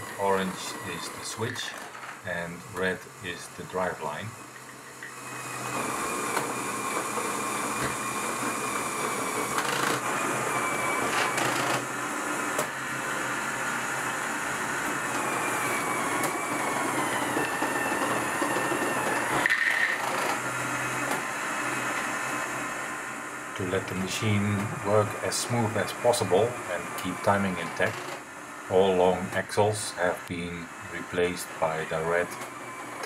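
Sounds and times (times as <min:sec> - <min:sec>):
electric motor whining: 0:00.0 - 0:33.0.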